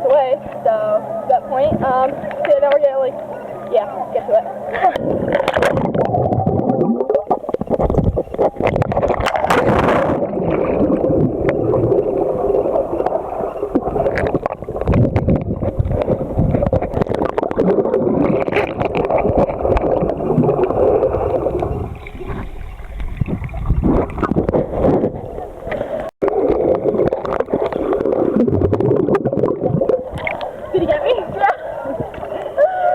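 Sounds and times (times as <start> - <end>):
muffled water gurgling and sloshing: 0.0 - 32.9
bubbling clicks and knocks: 4.8 - 32.5.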